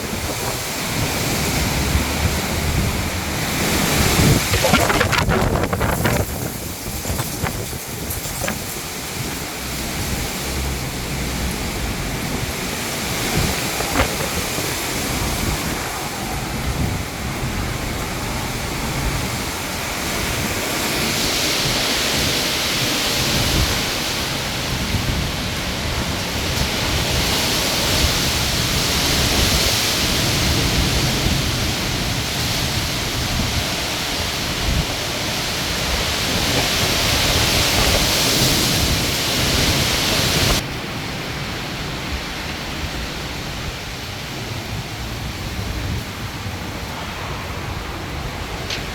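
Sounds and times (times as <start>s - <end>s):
strong wind rushing hiss: 0.0s - 48.9s
wind buffeting microphone: 0.0s - 48.9s.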